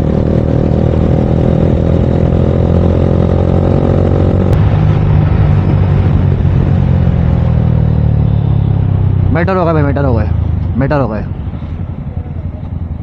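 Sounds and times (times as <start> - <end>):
motorcycle engine running at speed: 0.0 - 13.0.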